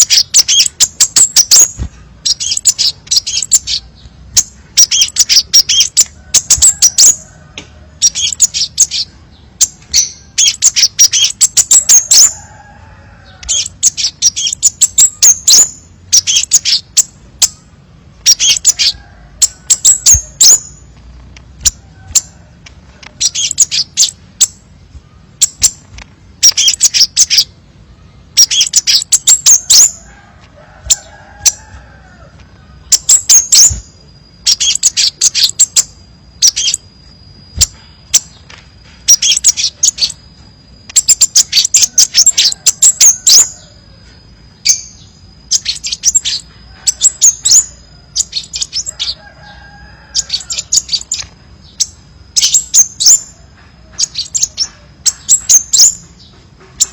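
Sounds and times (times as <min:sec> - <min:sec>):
bird chirping and trilling: 0:00.0 - 0:56.9.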